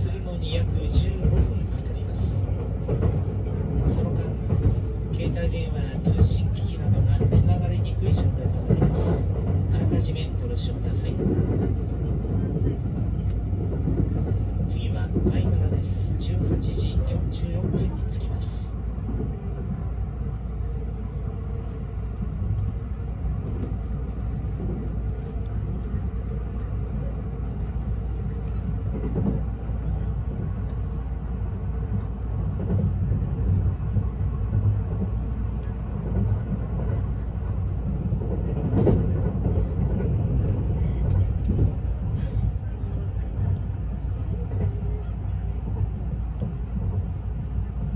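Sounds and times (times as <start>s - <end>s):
train running rumble inside cabin: 0.0s - 47.9s.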